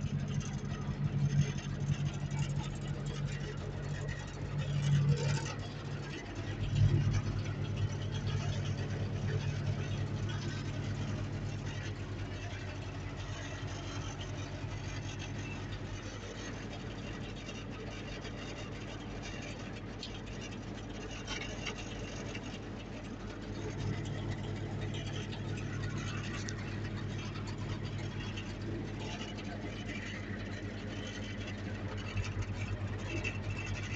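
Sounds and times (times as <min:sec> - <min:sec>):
engine idling from inside cab: 0:00.0 - 0:33.9.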